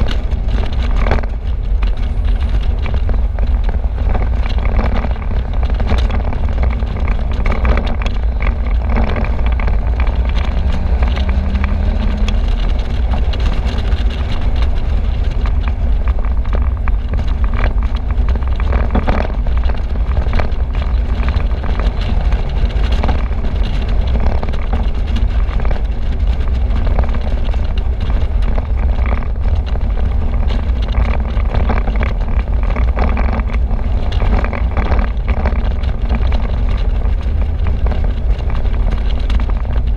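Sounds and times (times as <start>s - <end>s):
car engine: 0.0s - 39.9s
tyre noise: 0.0s - 39.9s
wind gusts buffeting: 0.0s - 39.9s
wind rushing over microphone: 0.0s - 39.9s.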